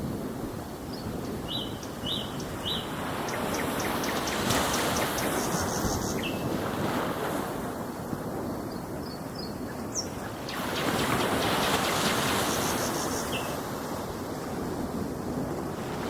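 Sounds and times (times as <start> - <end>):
ocean waves washing ashore: 0.0 - 16.0.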